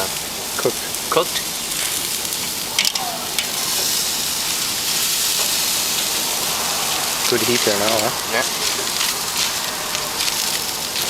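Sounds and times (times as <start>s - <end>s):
meat sizzling on charcoal grill: 0.0s - 11.0s.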